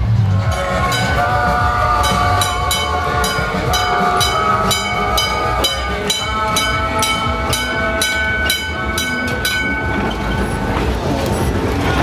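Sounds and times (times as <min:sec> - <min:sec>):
streetcar whine and rumble: 0:00.0 - 0:12.0
bell struck steadily: 0:00.4 - 0:11.0.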